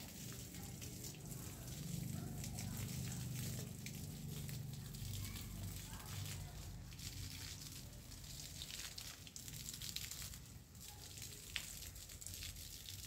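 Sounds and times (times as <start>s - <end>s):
water spraying from a hose: 0.0s - 13.0s.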